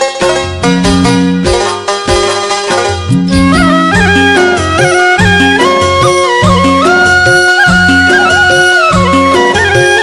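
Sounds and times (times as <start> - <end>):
instrumental folk melody with beat: 0.0 - 10.0.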